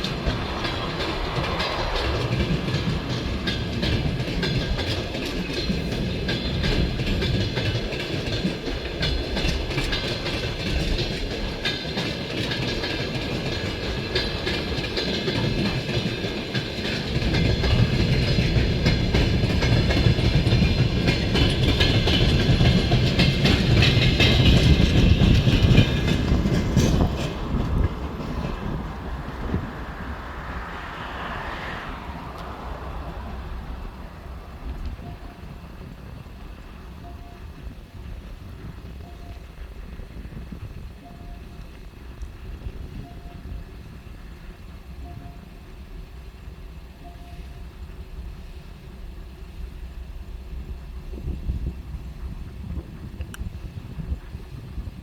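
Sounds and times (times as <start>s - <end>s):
wheels clicking over rail joints: 0.0s - 48.3s
freight train rolling past: 0.0s - 55.0s.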